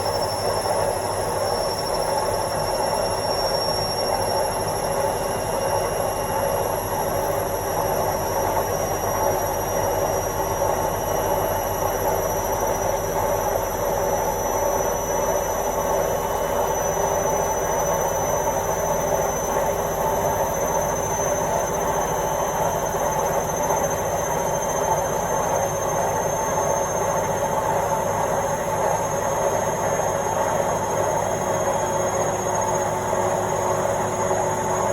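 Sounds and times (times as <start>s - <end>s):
faint high whine: 0.0s - 34.9s
washing machine running: 0.0s - 34.9s.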